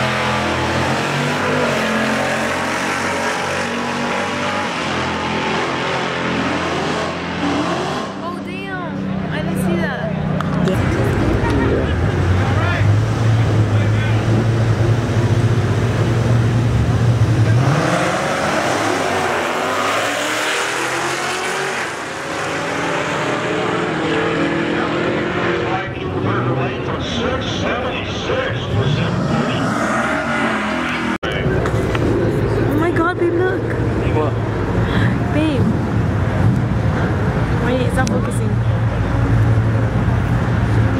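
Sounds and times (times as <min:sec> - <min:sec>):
drag racing cars accelerating: 0:00.0 - 0:40.9.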